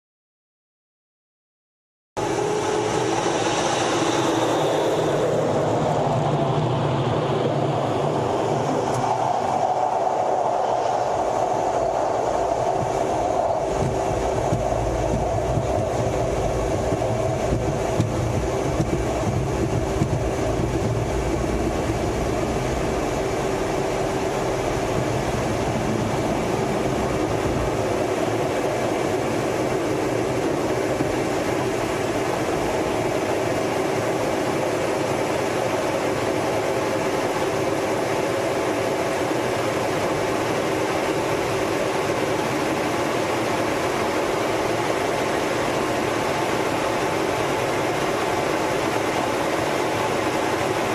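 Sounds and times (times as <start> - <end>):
jet engines roaring: 2.2 - 50.9
wheels rumbling on runway: 2.2 - 50.9.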